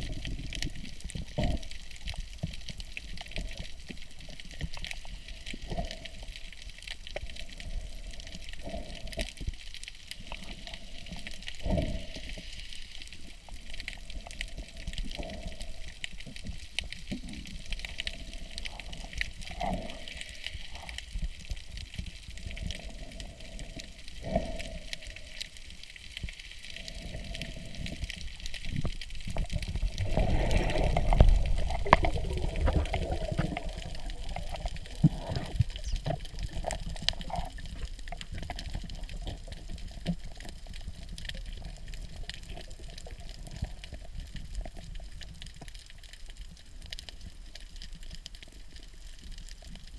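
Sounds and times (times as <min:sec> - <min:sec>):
water sloshing and bubbling: 0:00.0 - 0:49.9.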